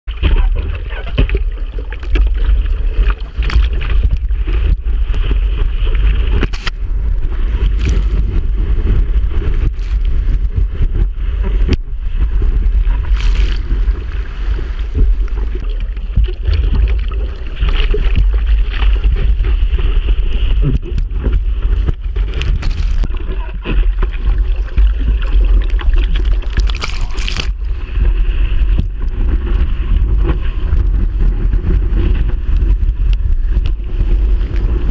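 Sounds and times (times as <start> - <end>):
rumble of water: 0.0 - 34.9
wind noise on microphone: 0.0 - 34.9
seawater splashing against surfboard: 0.1 - 30.8.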